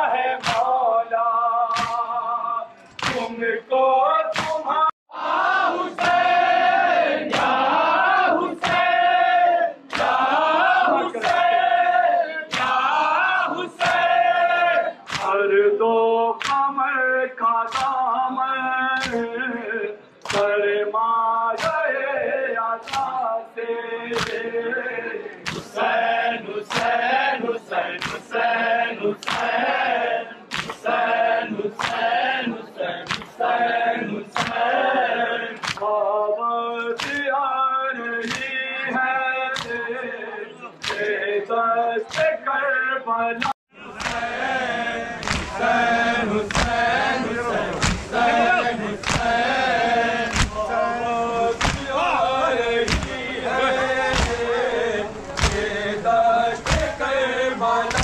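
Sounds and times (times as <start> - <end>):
crowd chanting: 0.0 - 58.0
men singing a lament: 0.0 - 58.0.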